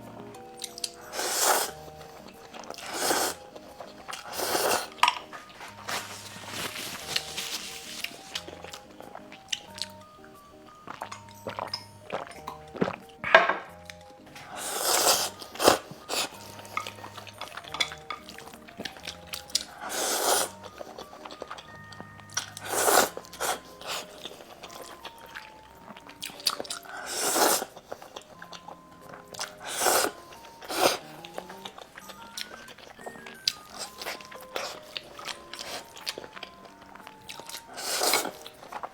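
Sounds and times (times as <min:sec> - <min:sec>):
chewing: 0:00.0 - 0:13.2, 0:13.8 - 0:38.9
soft background music: 0:00.0 - 0:38.9
slurping noodles: 0:00.8 - 0:10.0, 0:10.9 - 0:13.1, 0:14.4 - 0:38.9.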